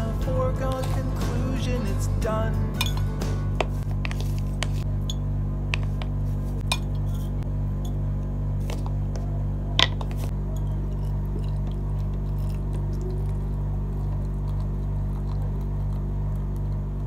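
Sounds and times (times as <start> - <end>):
background music with low drone: 0.0 - 7.5, 8.7 - 17.0.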